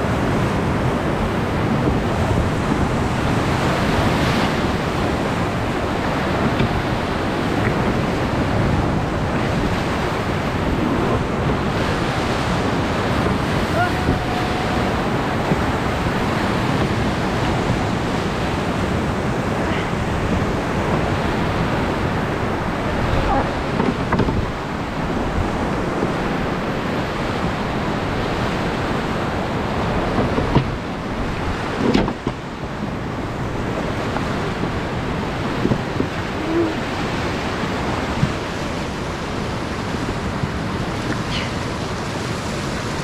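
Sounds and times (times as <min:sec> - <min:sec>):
whitewater rapid roaring: 0:00.0 - 0:43.0
wind buffeting microphone: 0:00.0 - 0:43.0.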